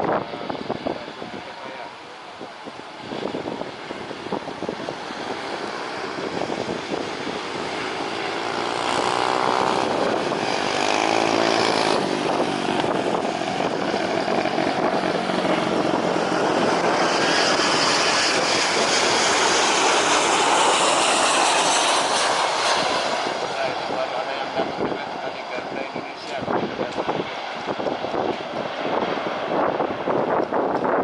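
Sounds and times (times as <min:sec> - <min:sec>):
airliner engines passing: 0:00.0 - 0:31.0.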